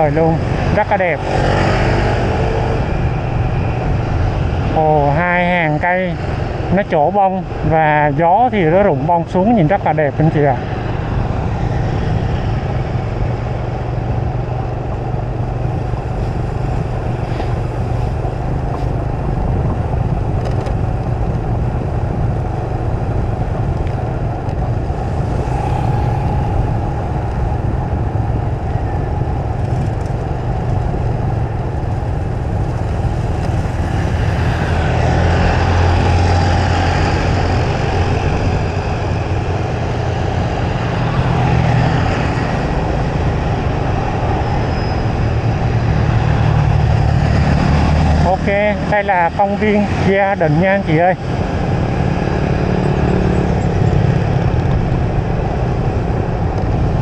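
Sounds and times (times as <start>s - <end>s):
traffic rushing: 0.0s - 57.0s
low engine hum: 9.2s - 57.0s.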